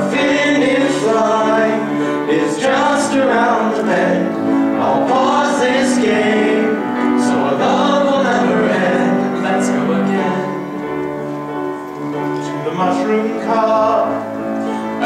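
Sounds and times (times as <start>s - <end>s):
men singing: 0.0s - 11.0s, 12.3s - 15.0s
grand piano accompaniment: 0.0s - 15.0s.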